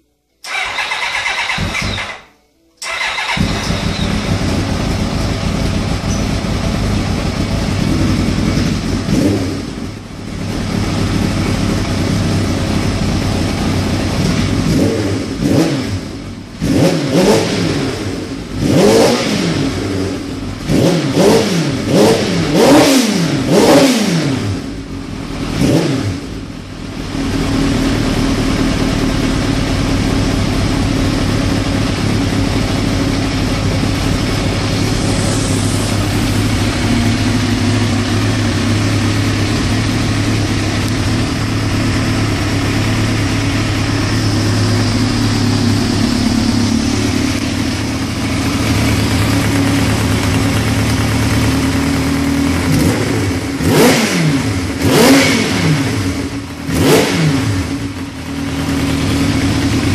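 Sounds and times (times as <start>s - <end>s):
motorcycle engine idling and revving: 0.4s - 59.9s.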